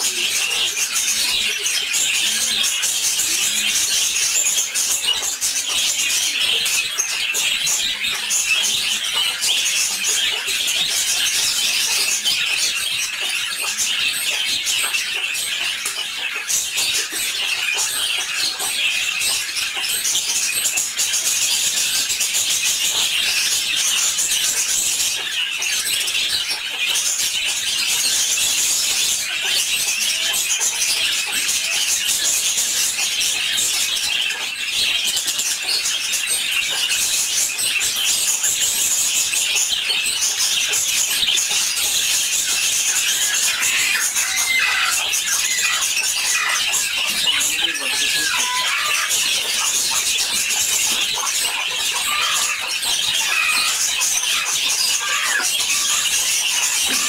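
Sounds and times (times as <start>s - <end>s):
budgerigars chattering and warbling: 0.0s - 57.0s.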